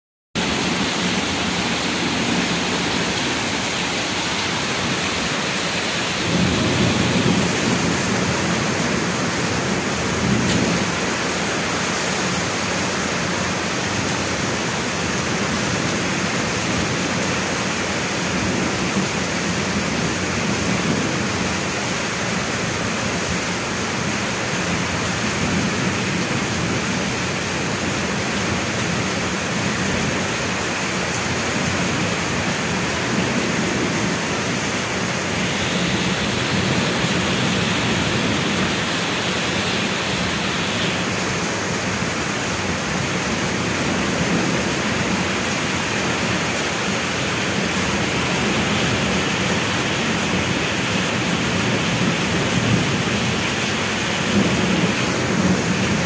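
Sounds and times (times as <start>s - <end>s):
heavy rain falling: 0.4s - 56.0s.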